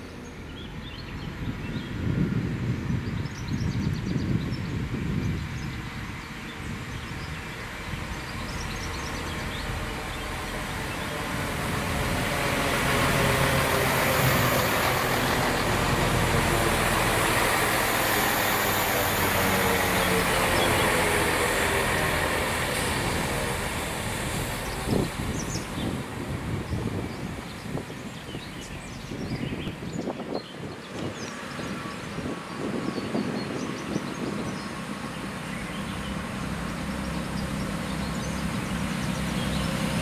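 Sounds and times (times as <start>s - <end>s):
diesel train passing: 0.0s - 40.0s.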